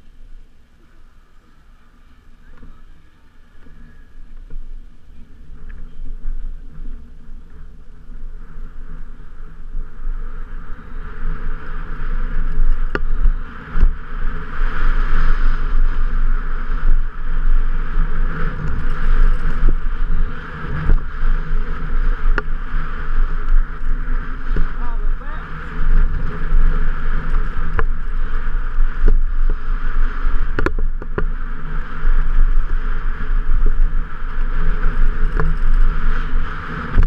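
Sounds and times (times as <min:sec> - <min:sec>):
bike tyres rumbling on dirt: 0:00.0 - 0:37.0
wind on microphone: 0:00.0 - 0:37.0.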